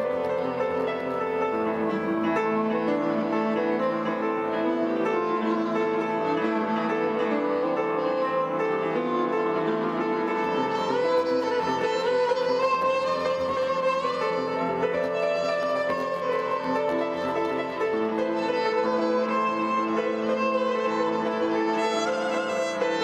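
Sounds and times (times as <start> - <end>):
piano: 0.0 - 23.0
violin: 0.0 - 23.0.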